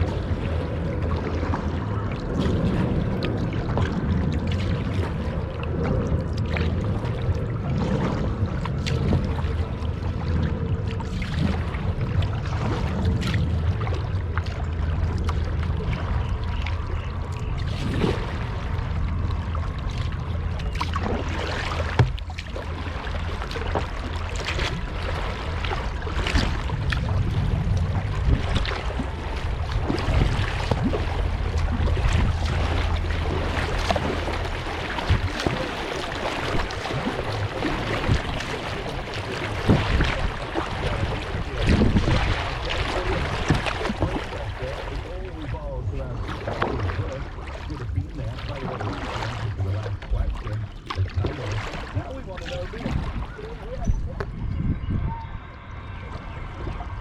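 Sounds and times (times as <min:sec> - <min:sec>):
paddle splashing in water: 0:00.0 - 0:54.4
low rumble: 0:00.0 - 0:57.0.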